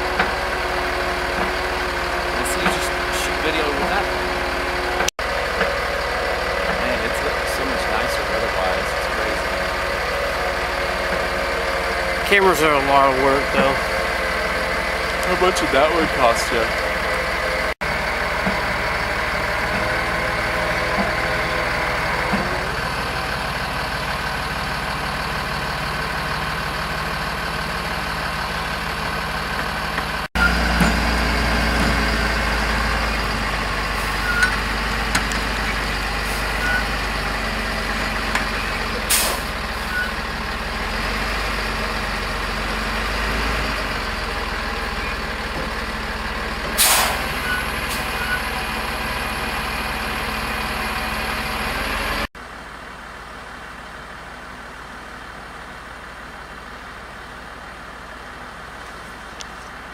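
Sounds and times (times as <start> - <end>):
deeper engine rumble: 0.0 - 59.9
heavy truck engine idling: 0.0 - 59.9.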